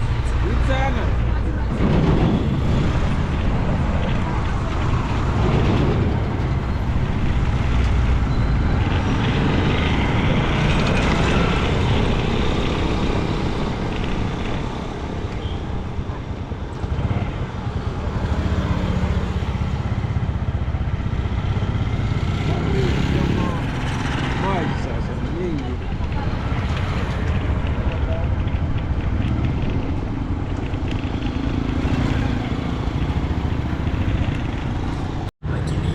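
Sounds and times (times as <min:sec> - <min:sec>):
vehicle engine and road noise: 0:00.0 - 0:35.9.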